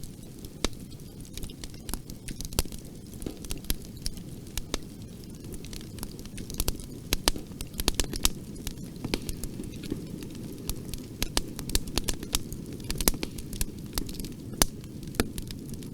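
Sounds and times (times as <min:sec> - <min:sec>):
bonfire crackling and popping: 0:00.0 - 0:15.9.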